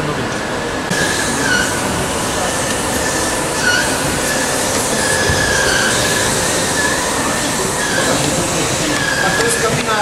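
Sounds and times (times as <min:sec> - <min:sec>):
conveyor machinery noise: 0:00.0 - 0:10.0
high machine squeals: 0:00.9 - 0:10.0.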